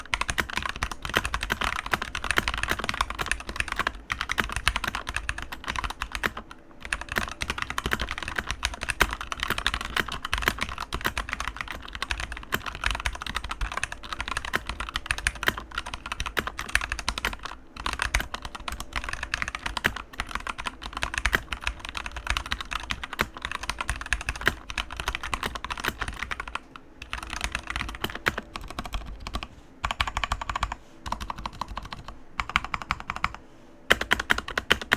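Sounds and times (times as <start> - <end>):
mechanical keyboard typing: 0.0 - 34.9.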